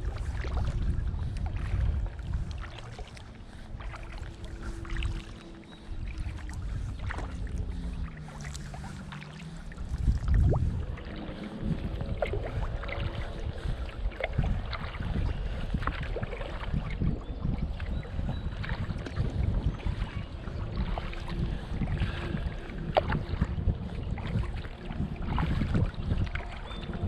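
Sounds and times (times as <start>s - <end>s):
paddle water sloshing and dripping: 0.0s - 27.0s
wind rumble on microphone: 0.0s - 27.0s.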